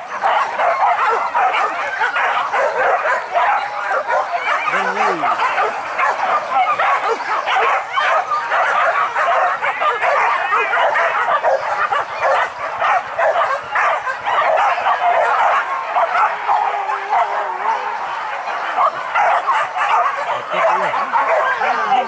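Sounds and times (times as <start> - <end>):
dogs yelping and barking: 0.0 - 22.0.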